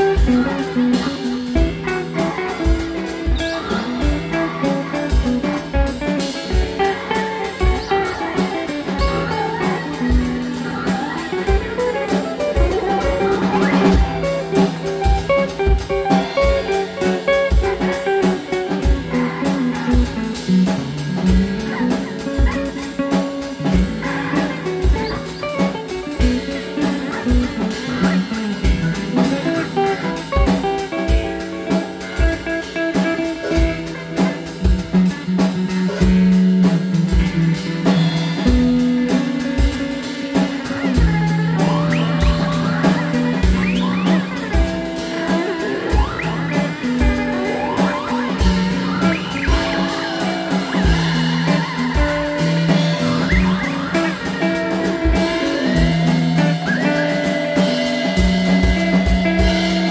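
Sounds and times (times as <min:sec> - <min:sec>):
drum kit kick-drum beat: 0:00.0 - 0:59.9
electric guitar: 0:00.0 - 0:59.9.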